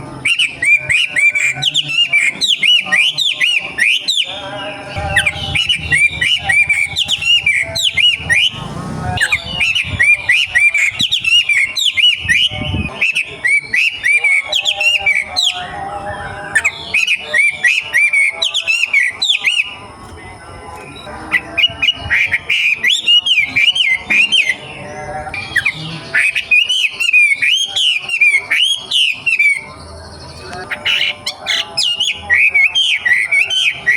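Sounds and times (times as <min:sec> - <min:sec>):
songbird singing rapid chirps: 0:00.0 - 0:33.9.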